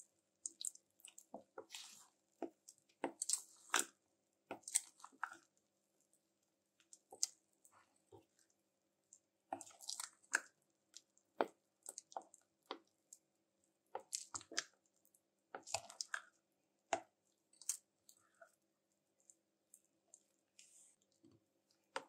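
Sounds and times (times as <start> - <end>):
wet squishes of stirred batter: 0.0 - 22.0.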